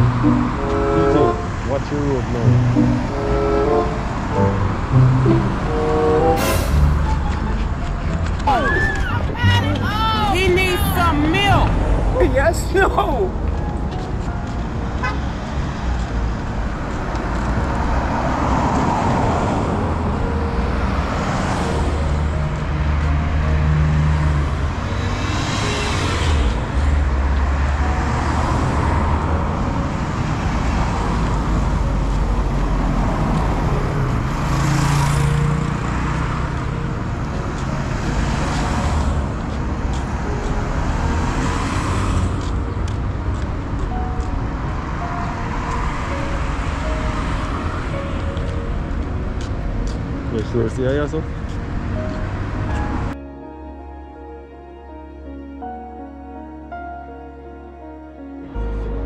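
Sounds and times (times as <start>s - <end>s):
low rumble of traffic: 0.0s - 59.0s
vehicles passing by: 0.0s - 59.0s.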